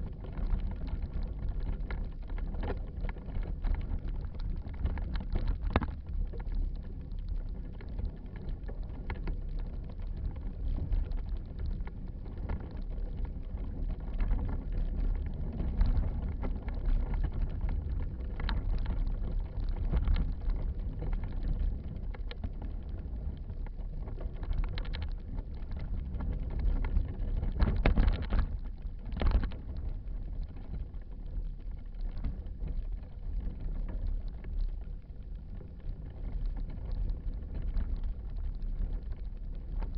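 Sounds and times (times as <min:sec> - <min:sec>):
bicycle camera rumble and rattle: 0:00.0 - 0:39.9
wind on microphone: 0:00.0 - 0:39.9.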